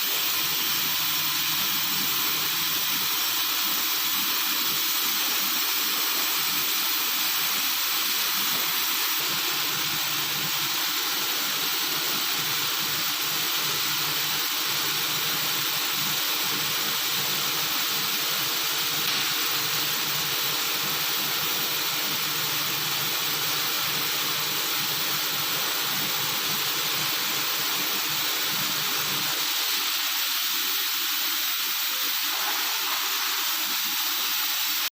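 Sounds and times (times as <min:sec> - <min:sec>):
welding machine hiss: 0:00.0 - 0:34.9.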